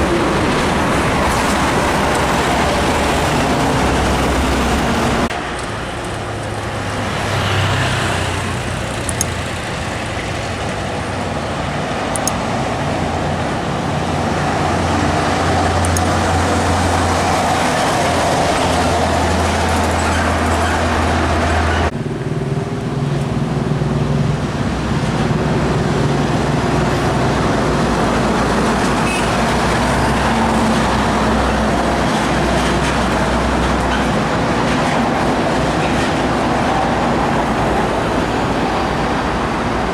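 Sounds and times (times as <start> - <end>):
truck engines droning: 0.0 - 39.9
tyre and traffic noise: 0.0 - 39.9.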